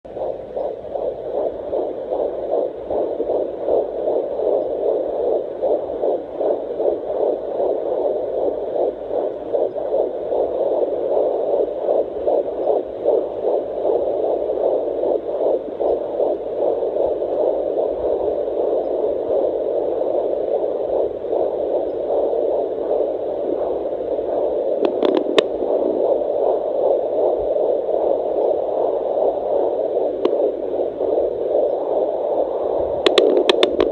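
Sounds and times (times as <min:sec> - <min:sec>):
fetal heartbeat whooshing on doppler: 0:00.0 - 0:33.9.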